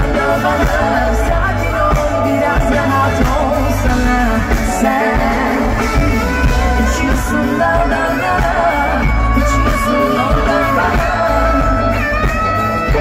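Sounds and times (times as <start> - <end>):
pop-rock band with electric guitars: 0.0 - 13.0
woman singing: 0.0 - 13.0.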